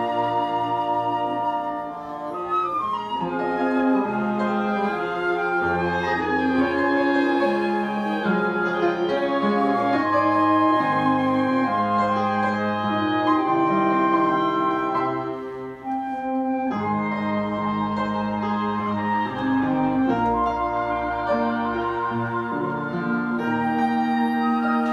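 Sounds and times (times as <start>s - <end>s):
flute: 0.0s - 24.9s
upright piano: 0.0s - 24.9s.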